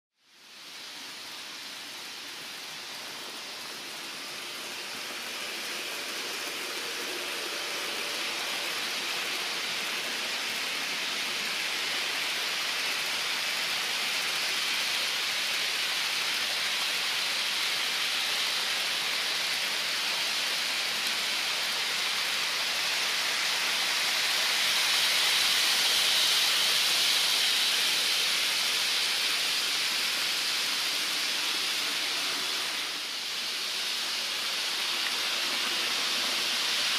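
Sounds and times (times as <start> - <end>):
model trains rolling hiss: 0.2 - 36.9.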